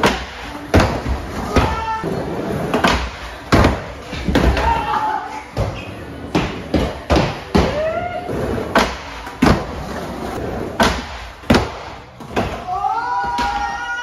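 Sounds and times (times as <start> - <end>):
skateboard wheels rolling: 0.0 - 12.5.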